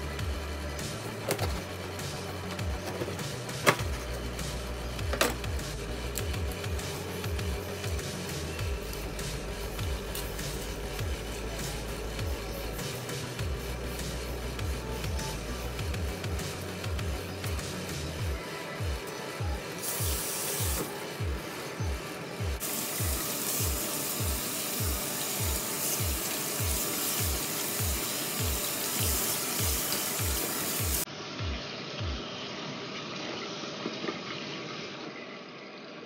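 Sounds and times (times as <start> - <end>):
music with low kick beat: 0.0 - 32.2.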